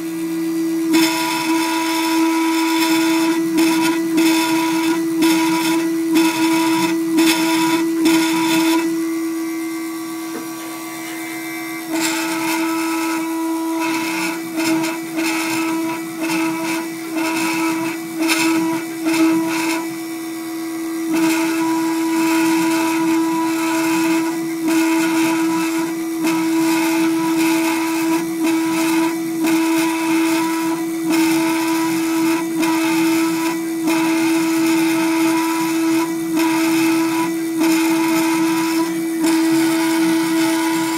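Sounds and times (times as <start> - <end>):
high spindle whine: 0.0 - 40.9
cutter rasping through plastic: 0.6 - 9.0, 10.2 - 40.9.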